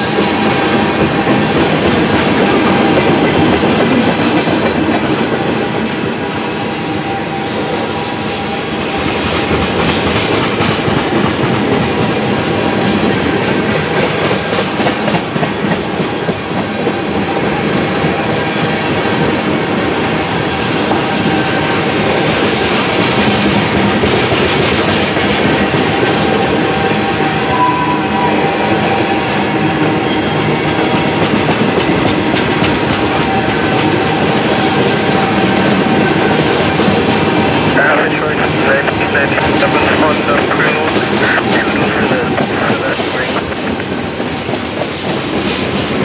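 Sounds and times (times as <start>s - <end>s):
train wheels clickety-clack: 0.0s - 27.4s, 28.8s - 46.0s
train rumble: 0.0s - 46.0s.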